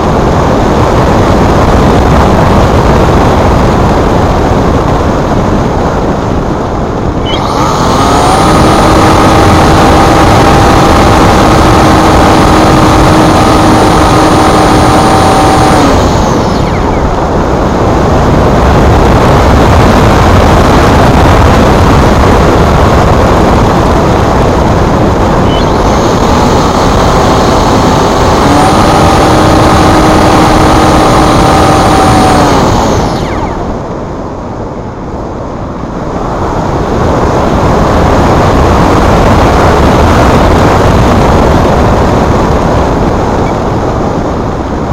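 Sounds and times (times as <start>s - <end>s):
electric motor high whine: 0.0s - 44.8s
wind buffeting microphone: 0.0s - 44.9s.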